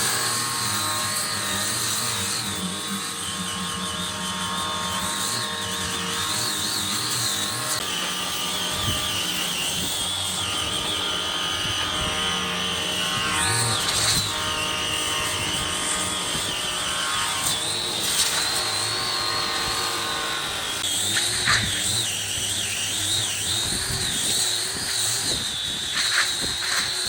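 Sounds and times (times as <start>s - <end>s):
power tool motor whine: 0.0s - 27.0s.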